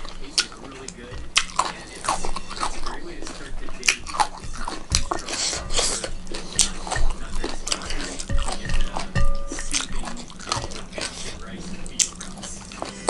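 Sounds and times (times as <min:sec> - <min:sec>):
chewing and lip-smacking: 0:00.0 - 0:13.0
fingers working food on plate: 0:00.0 - 0:13.0.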